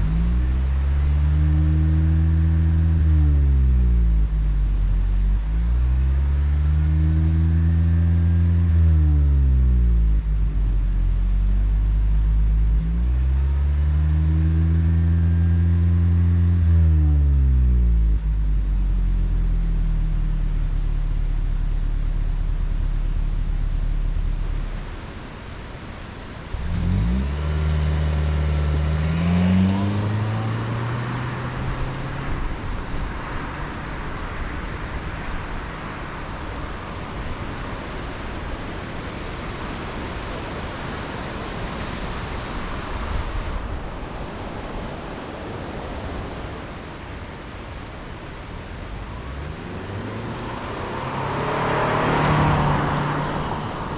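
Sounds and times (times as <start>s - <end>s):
car engine running: 0.0s - 46.5s
road and wind noise: 0.0s - 53.9s.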